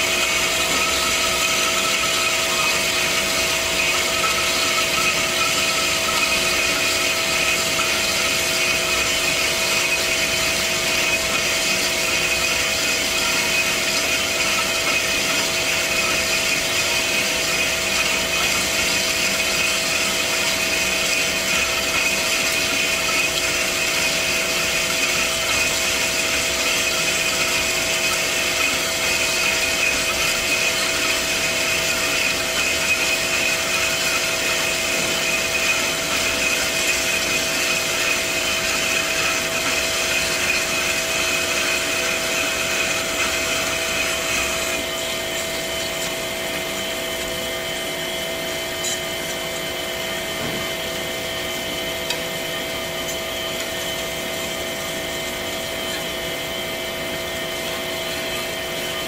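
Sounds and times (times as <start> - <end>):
band saw cutting metal tube: 0.0 - 59.0.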